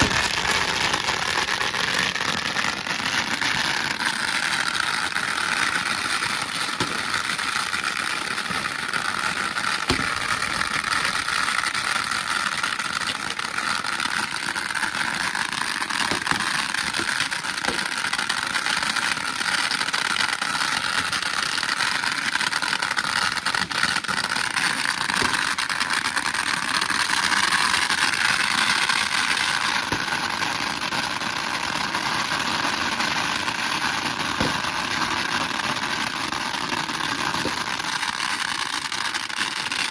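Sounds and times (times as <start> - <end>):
sharp firecracker cracks: 0.0 - 30.9, 33.5 - 35.6, 37.1 - 39.9
firecrackers crackling: 0.0 - 39.9.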